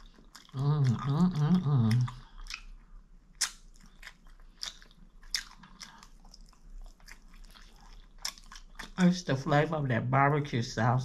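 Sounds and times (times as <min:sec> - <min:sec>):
person chewing and biting food: 0:00.0 - 0:09.0.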